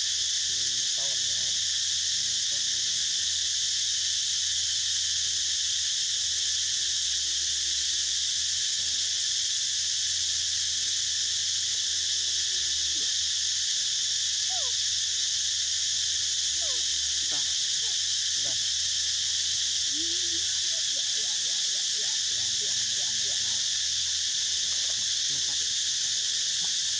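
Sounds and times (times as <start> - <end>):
insect chorus drone: 0.0 - 26.9.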